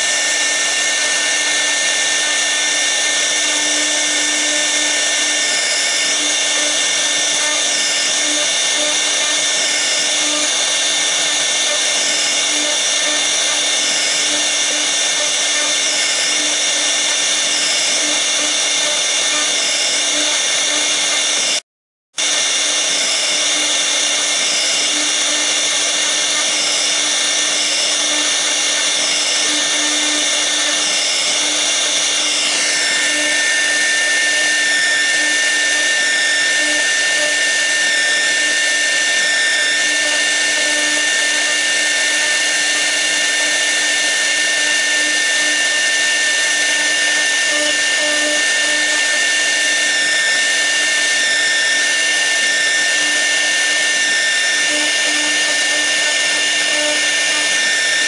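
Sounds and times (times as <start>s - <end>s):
router spindle high whine: 0.0s - 21.6s, 22.2s - 58.0s.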